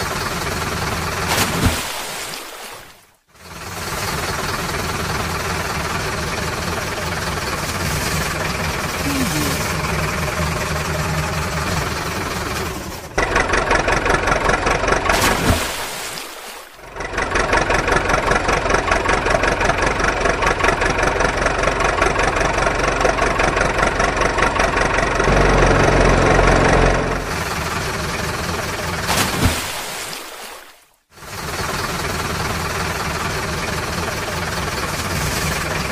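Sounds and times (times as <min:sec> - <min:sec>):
engine idling: 0:00.0 - 0:01.3, 0:03.3 - 0:15.2, 0:16.8 - 0:29.1, 0:31.2 - 0:35.9.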